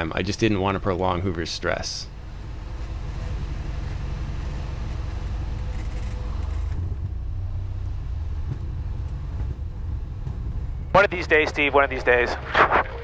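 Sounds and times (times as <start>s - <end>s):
piston engine and propeller droning: 0.0s - 13.0s.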